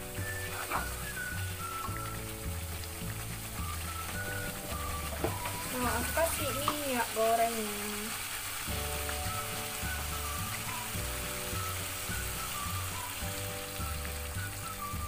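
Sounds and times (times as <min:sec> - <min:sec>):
soft melodic background music: 0:00.0 - 0:07.4, 0:08.7 - 0:15.0
spice paste sizzling in a wok: 0:00.0 - 0:15.0.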